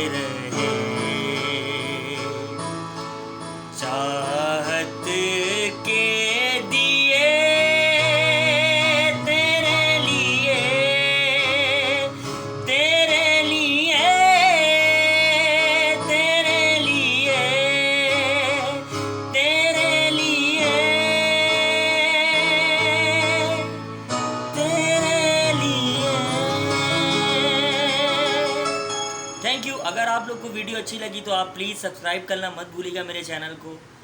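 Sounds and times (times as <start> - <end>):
person singing wordless notes: 0.0 - 31.8
instrumental accompaniment: 0.0 - 33.0.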